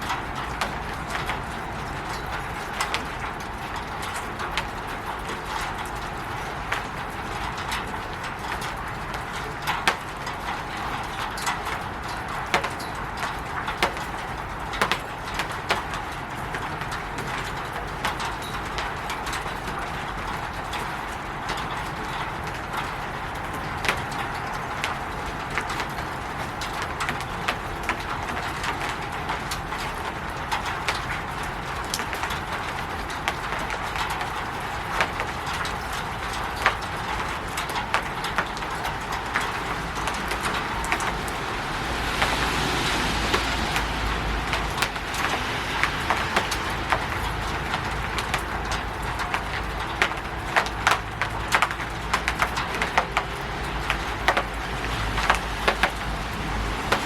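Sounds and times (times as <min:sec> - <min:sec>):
rain on a roof: 0:00.0 - 0:57.0
raindrops tapping: 0:00.0 - 0:57.0.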